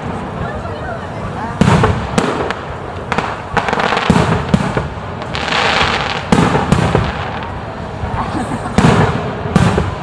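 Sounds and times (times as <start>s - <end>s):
fireworks booming: 0.0s - 10.0s
fireworks crackling: 0.0s - 10.0s.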